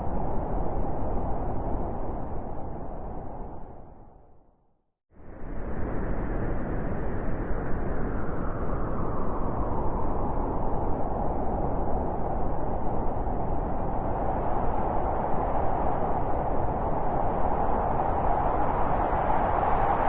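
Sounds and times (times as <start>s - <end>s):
blizzard wind howling: 0.0s - 4.5s, 5.2s - 20.0s.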